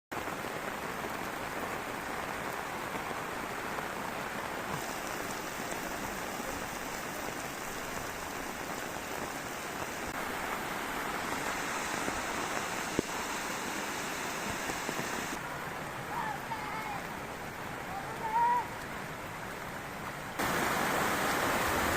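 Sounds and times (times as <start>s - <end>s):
heavy rain falling: 0.1s - 21.9s.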